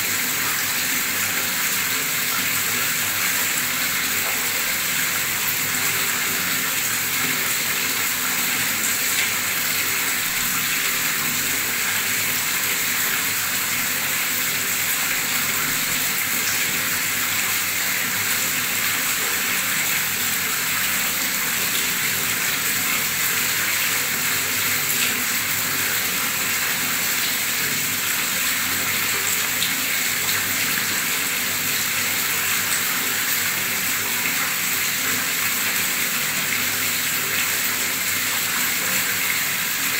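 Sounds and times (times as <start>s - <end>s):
tap water pouring and splashing: 0.0s - 39.9s.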